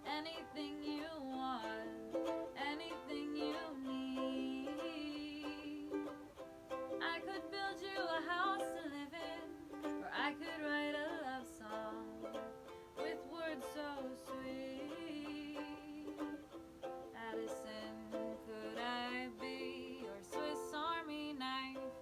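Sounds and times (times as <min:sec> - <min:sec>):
ukulele playing chords: 0:00.0 - 0:22.0.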